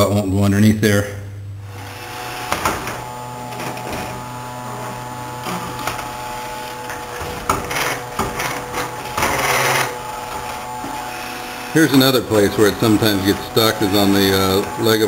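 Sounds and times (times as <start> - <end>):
robot vacuum whirring: 1.6 - 15.0.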